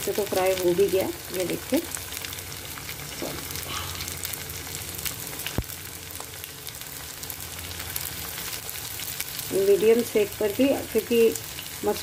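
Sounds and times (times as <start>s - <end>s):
deep-frying sizzle with crackles: 0.0s - 12.0s.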